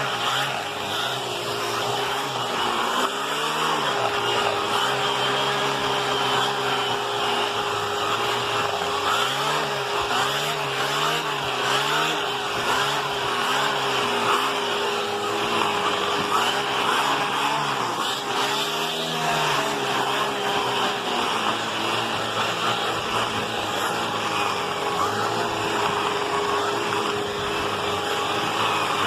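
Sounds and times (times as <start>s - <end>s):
vacuum cleaner motor whine: 0.0s - 29.0s.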